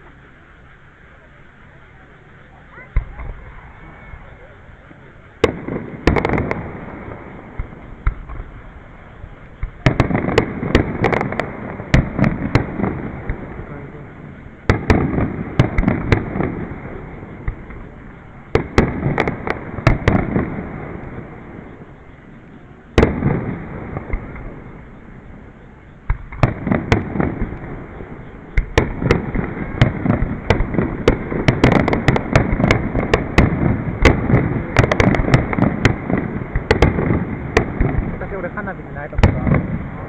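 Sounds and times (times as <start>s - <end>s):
fireworks crackling: 0.0s - 40.0s
rumbling echo: 0.6s - 40.0s.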